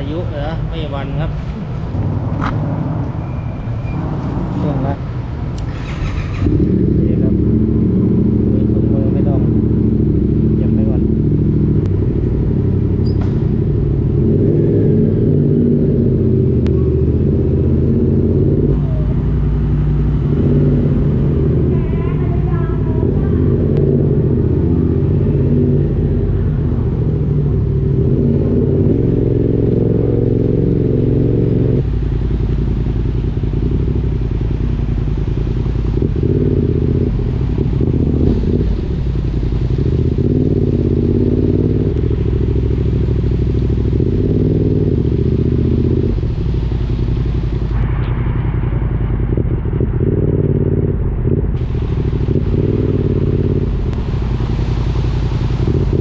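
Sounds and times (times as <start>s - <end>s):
motorcycle engine riding: 0.0s - 56.0s.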